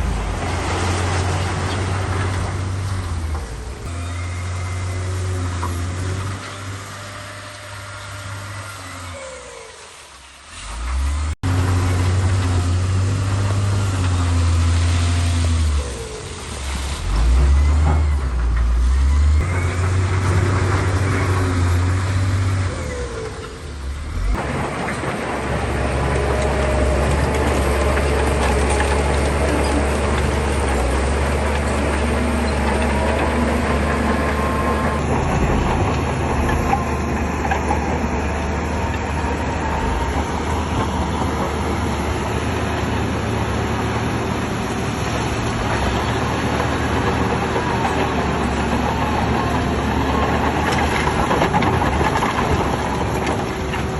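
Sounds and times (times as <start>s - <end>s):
bulldozer diesel engine drone: 0.0s - 53.9s.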